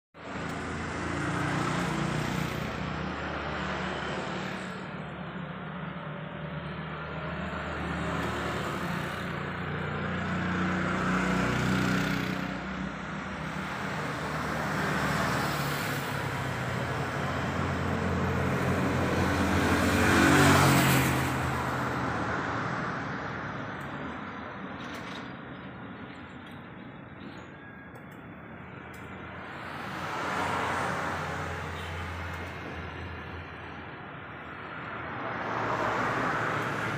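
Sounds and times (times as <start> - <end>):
vehicle engines passing: 0.2 - 36.9.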